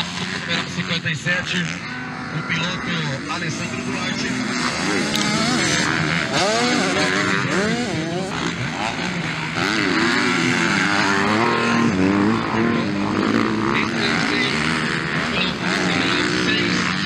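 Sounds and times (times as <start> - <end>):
motorbike engines revving: 0.0 - 17.0.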